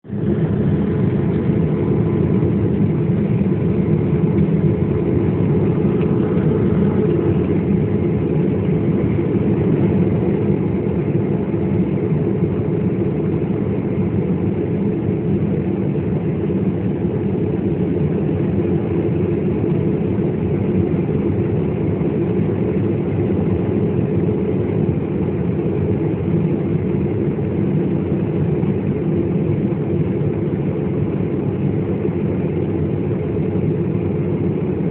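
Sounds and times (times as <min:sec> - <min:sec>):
airliner engines and airflow rumble: 0:00.0 - 0:34.9.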